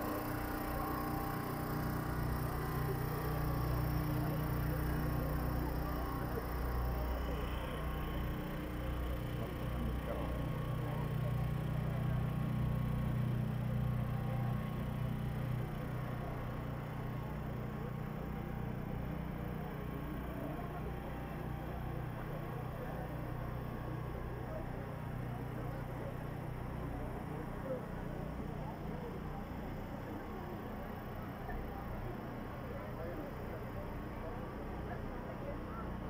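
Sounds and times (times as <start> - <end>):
engine humming: 0.0 - 36.0
murmur of voices: 0.0 - 36.0.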